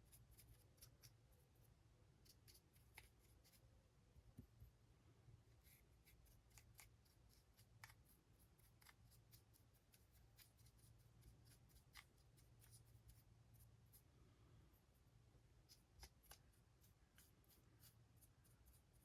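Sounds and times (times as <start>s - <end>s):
brush scratching on model: 0.0s - 3.7s, 5.5s - 14.1s, 14.7s - 19.0s
low room hum: 0.0s - 19.0s.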